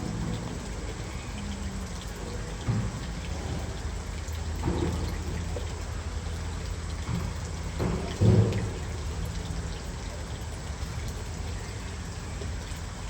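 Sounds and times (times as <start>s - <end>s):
falling water: 0.0s - 13.0s.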